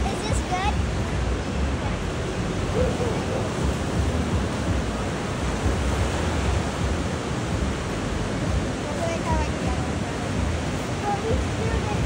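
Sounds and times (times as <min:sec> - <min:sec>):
ocean surf breaking on sand: 0:00.0 - 0:12.0
wind buffeting microphone: 0:00.0 - 0:12.0.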